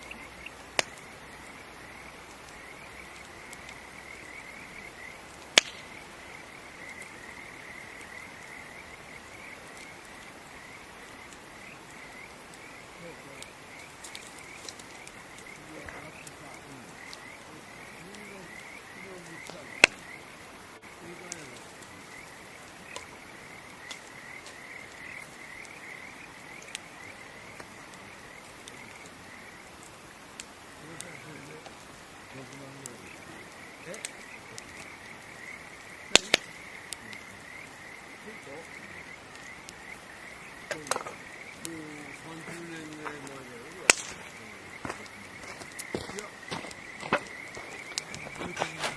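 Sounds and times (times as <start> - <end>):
campfire wood popping: 0.0 - 48.9
night animals chirping: 0.0 - 48.9.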